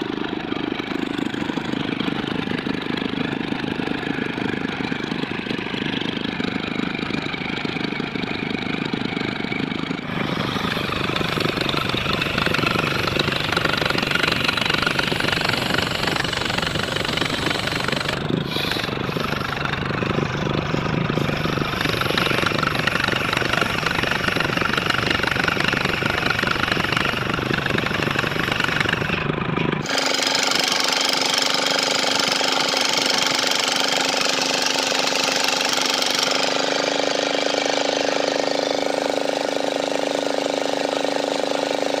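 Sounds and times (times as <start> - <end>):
circular saw cutting log: 0.0 - 42.0
saw running with even tones: 0.0 - 42.0.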